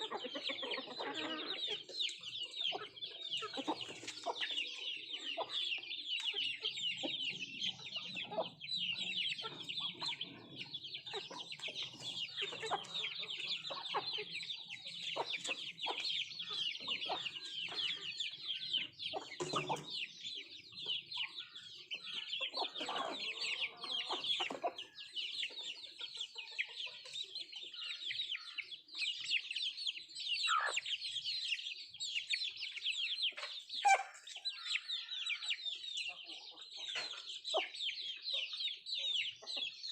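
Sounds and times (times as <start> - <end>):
chickens clucking: 0.0 - 39.9
dense high-pitched chirping: 1.7 - 39.6.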